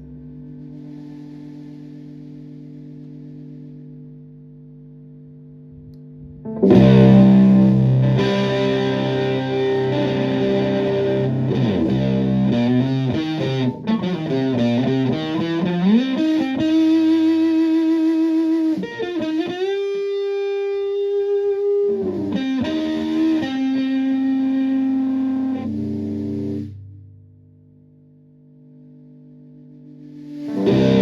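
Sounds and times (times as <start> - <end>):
fuzzed electric guitar: 0.0 - 5.0, 5.6 - 27.1, 29.5 - 31.0.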